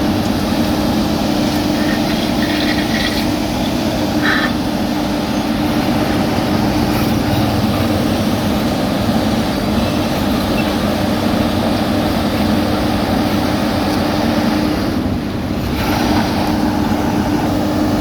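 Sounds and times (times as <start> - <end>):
paving machine engine running: 0.0 - 18.0.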